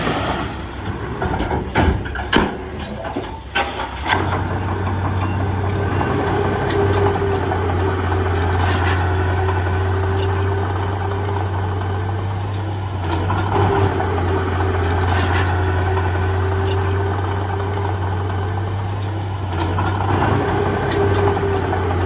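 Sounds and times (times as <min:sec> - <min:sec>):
diesel engine humming: 0:00.0 - 0:22.0
short clanks: 0:00.0 - 0:22.0.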